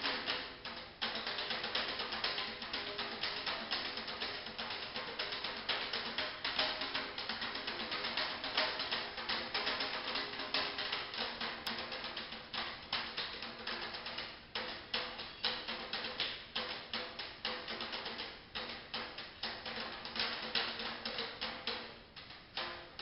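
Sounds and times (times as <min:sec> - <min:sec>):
hand drums played fast: 0:00.0 - 0:22.0.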